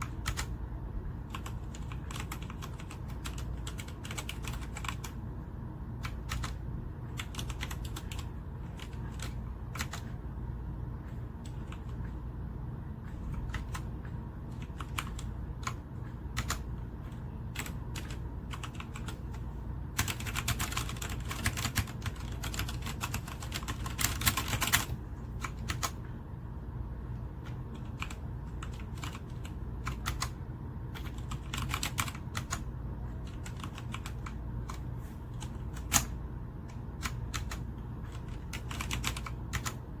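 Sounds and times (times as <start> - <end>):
typing on mechanical keyboard: 0.0 - 0.6, 1.2 - 5.2, 6.0 - 10.2, 11.1 - 12.1, 13.0 - 26.0, 27.4 - 40.0.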